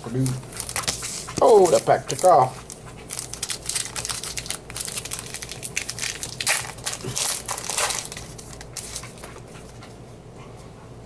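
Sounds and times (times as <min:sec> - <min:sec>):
card pack wrapper crinkling: 0:00.2 - 0:09.3.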